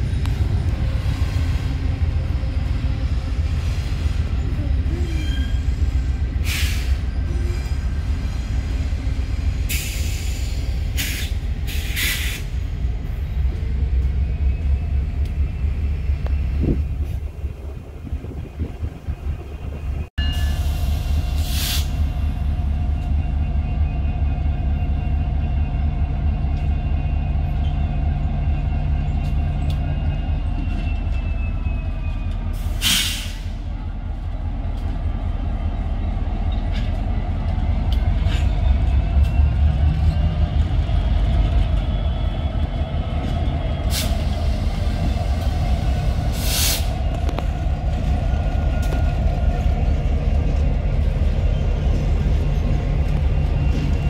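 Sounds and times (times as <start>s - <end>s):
locomotive engine rumble: 0.0s - 54.0s.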